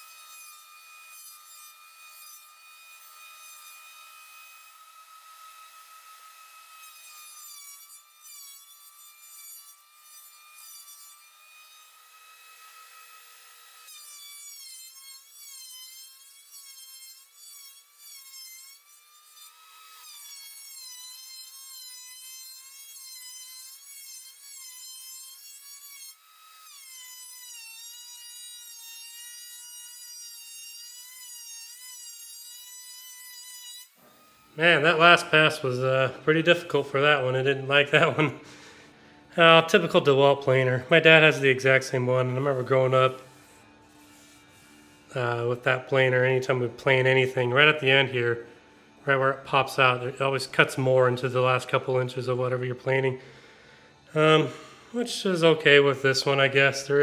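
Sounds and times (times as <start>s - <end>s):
thickness planer whining: 0.0s - 57.0s.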